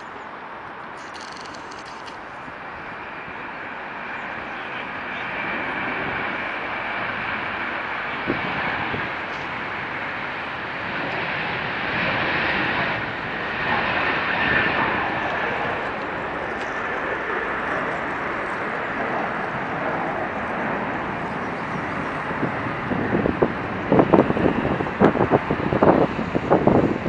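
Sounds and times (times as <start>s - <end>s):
high engine whine: 0.0s - 27.0s
jet engines rushing: 0.0s - 27.0s.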